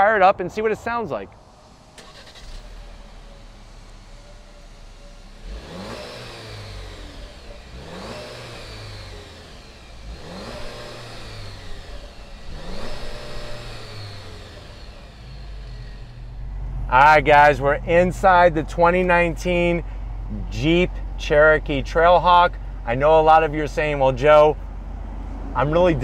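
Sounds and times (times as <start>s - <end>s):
car engine idling and revving: 0.9s - 26.0s.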